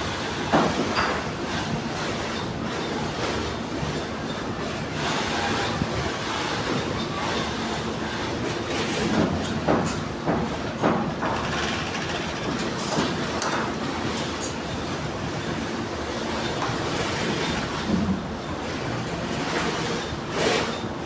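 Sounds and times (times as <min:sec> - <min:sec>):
sewing machine clatter and hum: 0:00.0 - 0:21.0.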